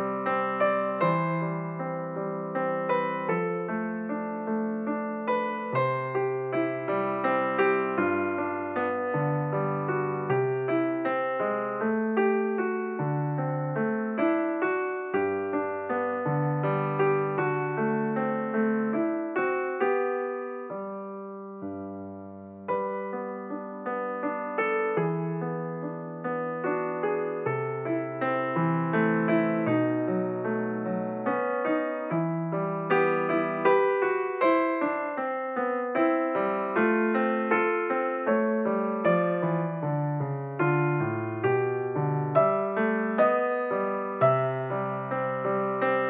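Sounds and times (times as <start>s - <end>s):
slow solo piano piece: 0.0s - 46.0s.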